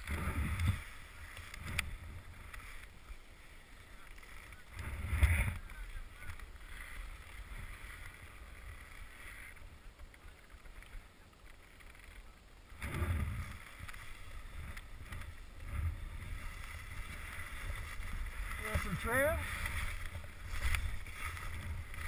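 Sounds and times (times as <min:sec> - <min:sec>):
skis sliding over snow: 0:00.0 - 0:22.0
wind rumbling on microphone: 0:00.0 - 0:22.0.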